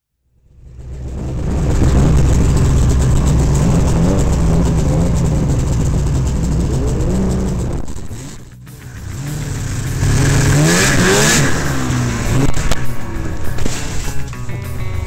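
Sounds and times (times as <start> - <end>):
snowmobile engine revving: 0.6 - 14.9
wind and track noise: 0.6 - 15.0.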